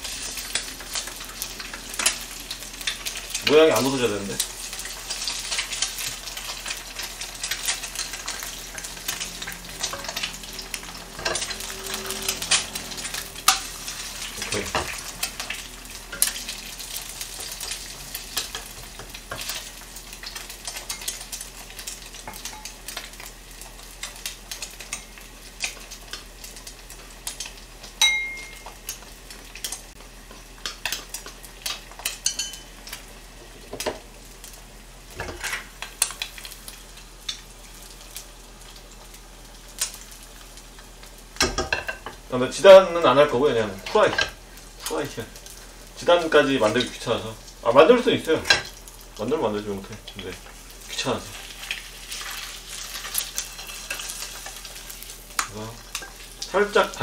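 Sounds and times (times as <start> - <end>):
egg sizzling in oil: 0.0 - 57.0.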